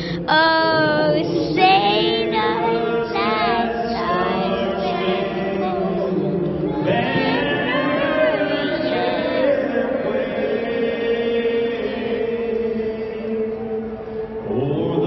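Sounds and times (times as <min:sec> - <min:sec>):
voices singing with music: 0:00.0 - 0:15.0.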